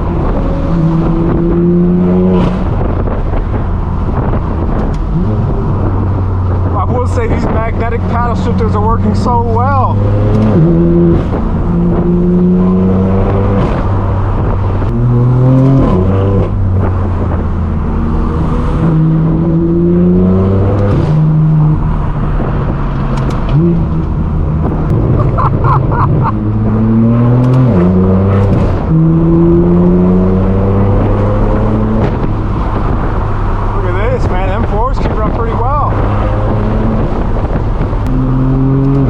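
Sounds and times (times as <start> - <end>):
car engine revving through gears: 0.0 - 39.0.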